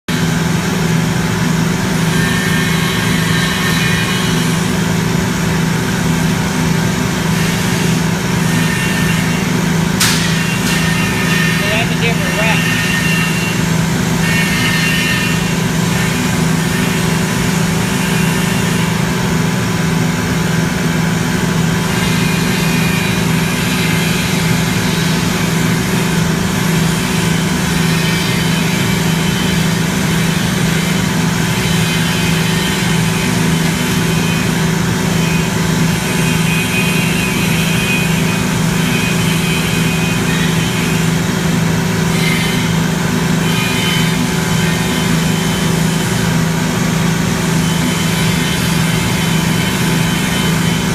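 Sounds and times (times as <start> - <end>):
industrial machinery humming: 0.0 - 50.9.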